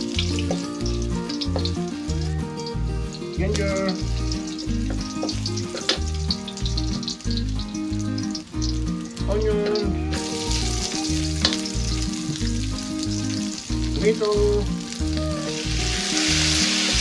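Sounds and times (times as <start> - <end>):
background music with steady beat: 0.0 - 16.0
sizzling in hot oil: 0.0 - 17.0.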